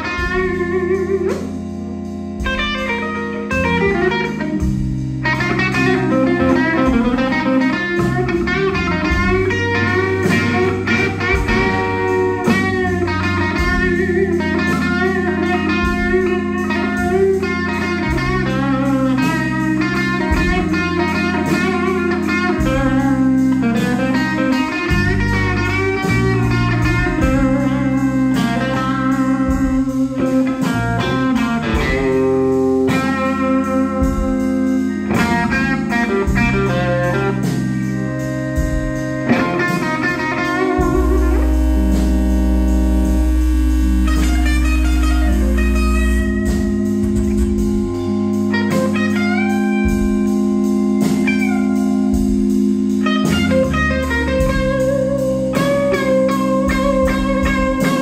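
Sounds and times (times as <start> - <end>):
blues band playing live: 0.0 - 58.0
electric guitar: 0.0 - 58.0.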